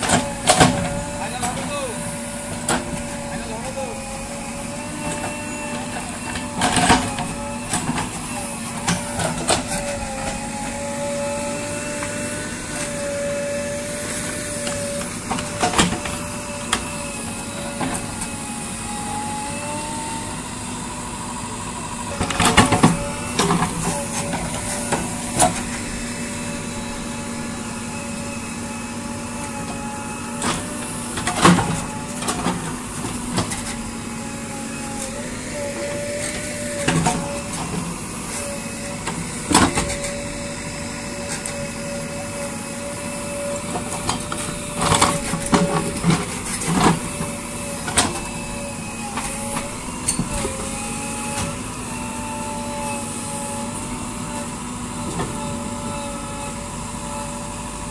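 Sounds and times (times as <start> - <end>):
diesel engine whining under load: 0.0 - 57.9.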